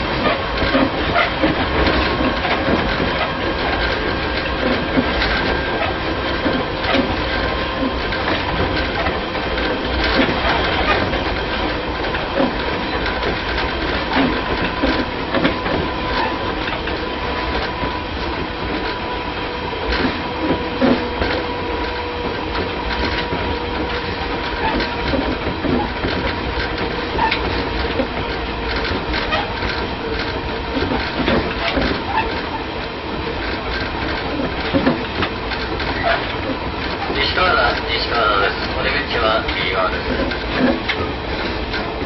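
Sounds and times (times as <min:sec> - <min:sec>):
wheels knocking over rail joints: 0:00.0 - 0:19.0, 0:19.8 - 0:42.0
train motor whine: 0:00.0 - 0:42.0
train running rumble: 0:00.0 - 0:42.0.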